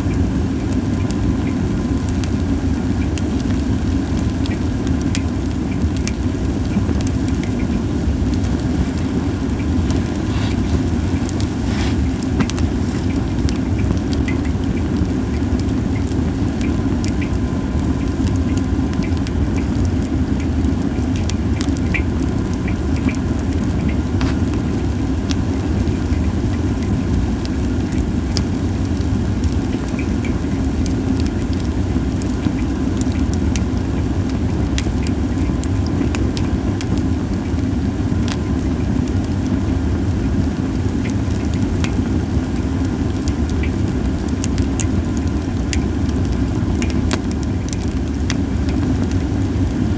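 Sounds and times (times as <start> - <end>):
low fire rumble: 0.0 - 49.9
firewood crackling and popping: 0.1 - 49.9.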